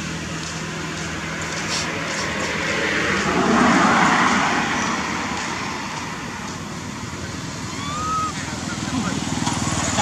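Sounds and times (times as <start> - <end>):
vehicle passing by: 0.0 - 10.0.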